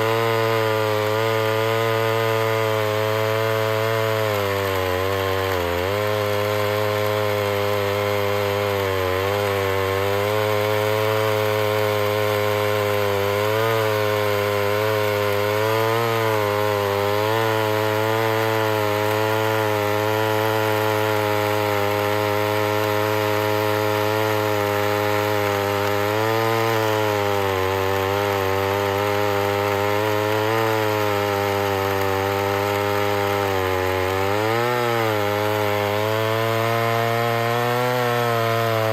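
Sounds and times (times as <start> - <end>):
chainsaw running at full throttle: 0.0 - 38.9.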